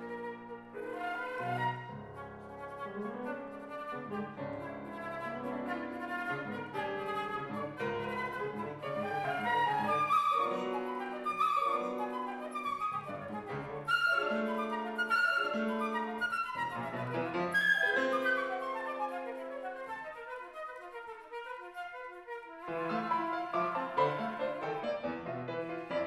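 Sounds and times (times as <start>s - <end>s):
piano chords: 0.0s - 20.4s, 22.6s - 26.0s
flute playing fast runs: 0.0s - 26.0s.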